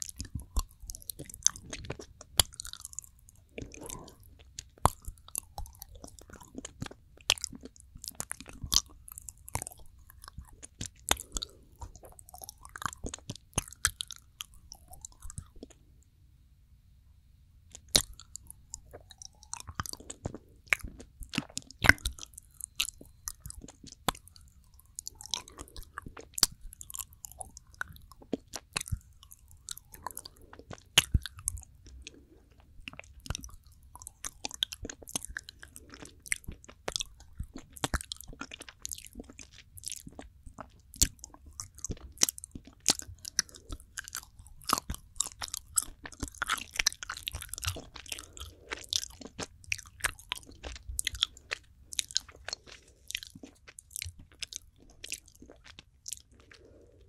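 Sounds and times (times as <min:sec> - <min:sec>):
mouth chewing wet smacks: 0:00.0 - 0:15.8, 0:17.7 - 0:57.0.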